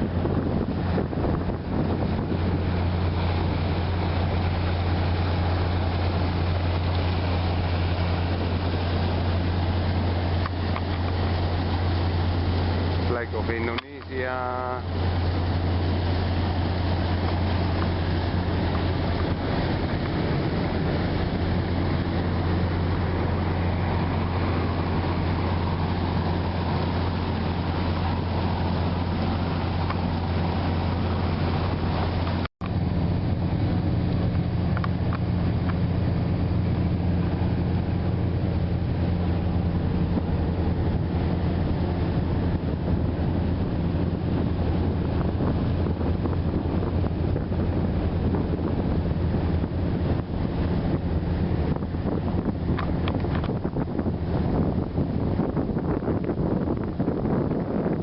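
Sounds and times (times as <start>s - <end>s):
boat engine droning: 0.0s - 58.0s
wind: 0.0s - 58.0s.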